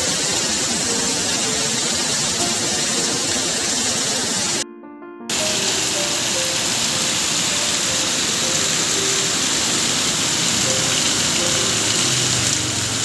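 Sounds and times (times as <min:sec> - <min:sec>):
heavy rain hissing: 0:00.0 - 0:04.6, 0:05.3 - 0:13.0
faint music notes: 0:00.0 - 0:13.0.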